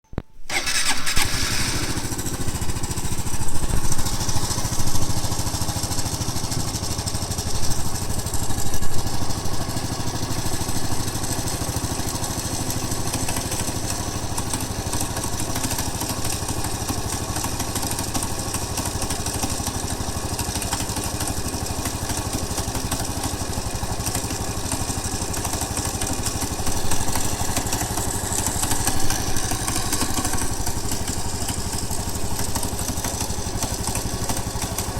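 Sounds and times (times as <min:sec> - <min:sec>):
abnormal mechanical engine noise: 0:00.5 - 0:34.9
motorcycle engine running: 0:00.5 - 0:34.9.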